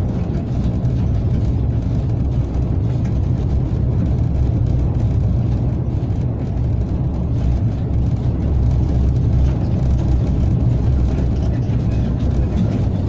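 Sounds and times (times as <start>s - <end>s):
locomotive cab low rumble: 0.0s - 13.0s.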